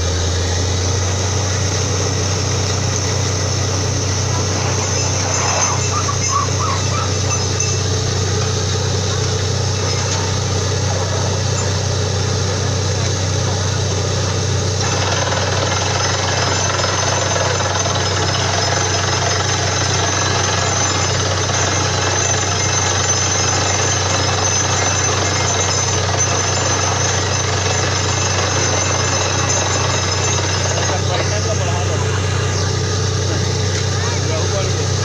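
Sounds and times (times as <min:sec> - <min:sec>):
drill hammering clatter: 0:00.0 - 0:35.0
engine and compressor hum: 0:00.0 - 0:35.0.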